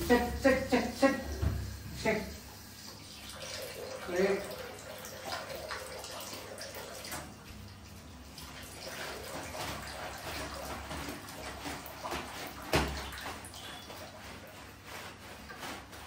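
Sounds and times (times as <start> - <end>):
water running and splashing: 0.0 - 16.0.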